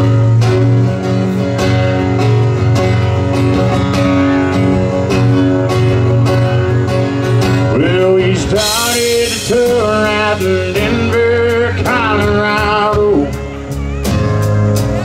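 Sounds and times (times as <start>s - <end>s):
live country band playing: 0.0s - 15.0s.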